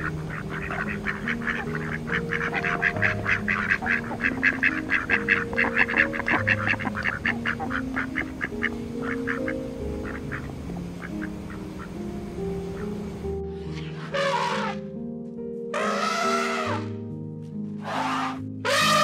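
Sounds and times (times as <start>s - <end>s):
ducks quacking: 0.0s - 12.0s, 13.8s - 14.8s, 15.7s - 16.9s, 17.8s - 19.0s.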